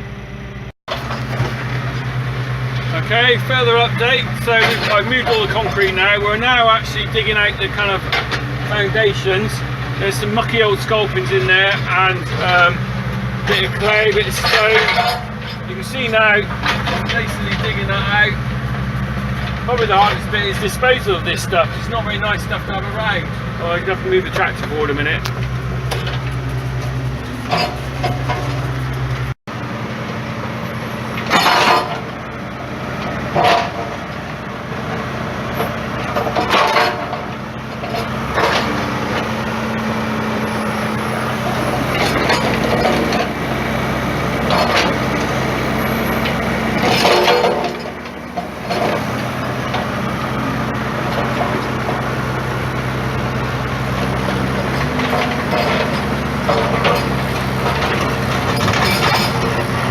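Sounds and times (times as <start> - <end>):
diesel tractor engine under load: 0.0 - 59.9
machine scraping and clanking: 0.9 - 59.9.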